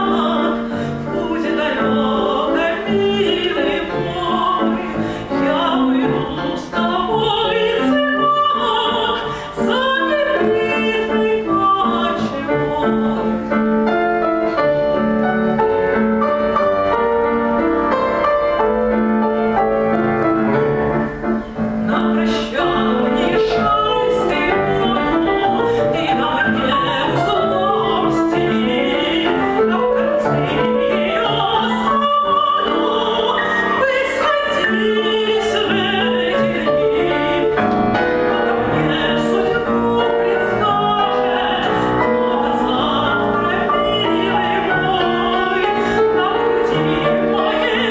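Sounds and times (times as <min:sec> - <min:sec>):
woman singing classically: 0:00.0 - 0:15.7, 0:21.8 - 0:47.9
piano accompaniment: 0:00.0 - 0:47.9.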